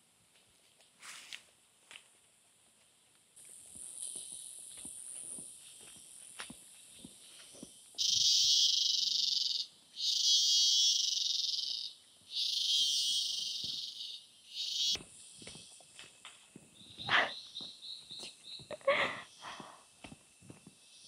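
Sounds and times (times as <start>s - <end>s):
faint high insect hiss: 2.3s - 21.0s
cicadas buzzing: 3.4s - 21.0s.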